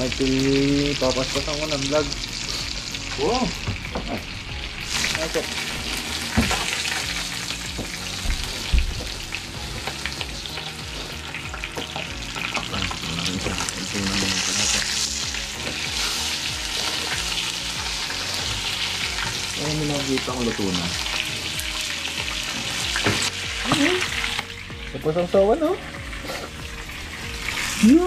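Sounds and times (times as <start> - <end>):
squid sizzling in oil: 0.0 - 28.0.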